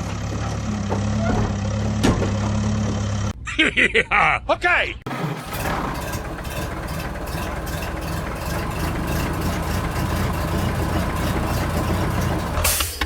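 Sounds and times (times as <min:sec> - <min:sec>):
engine rumbling steadily: 0:00.0 - 0:03.4, 0:05.1 - 0:13.0.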